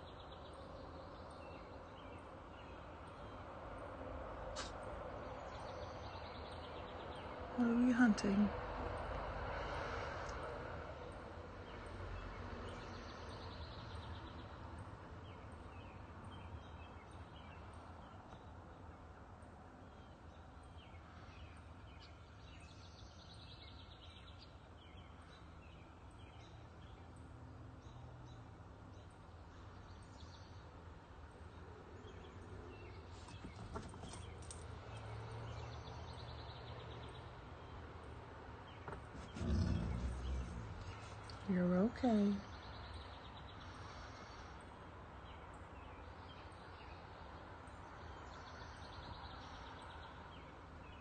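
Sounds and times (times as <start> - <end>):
outdoor background hum and hiss: 0.0 - 51.0.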